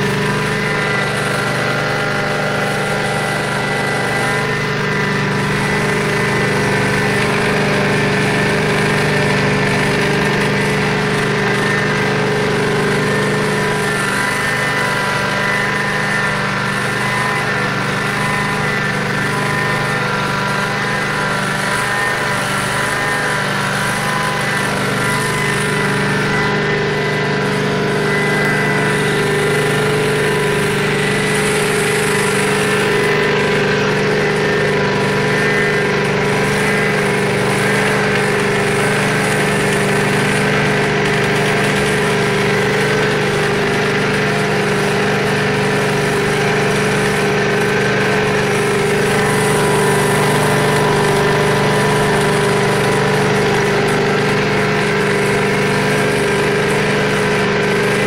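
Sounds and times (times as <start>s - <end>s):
carpet cleaner engine humming: 0.0s - 58.0s.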